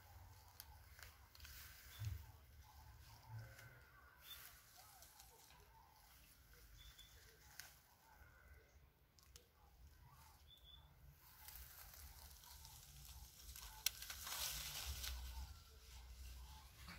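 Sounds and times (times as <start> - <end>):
dry leaves rustling: 0.0 - 8.6, 10.2 - 16.9.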